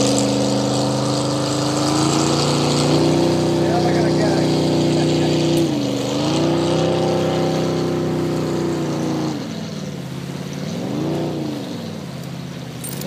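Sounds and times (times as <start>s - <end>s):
motorboat engine: 0.0s - 13.0s.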